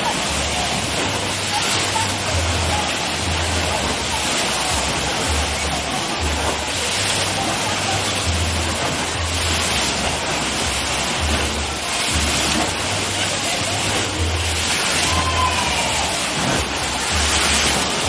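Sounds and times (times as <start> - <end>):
background music bass: 0.0 - 18.0
waves crashing in pool: 0.0 - 18.0.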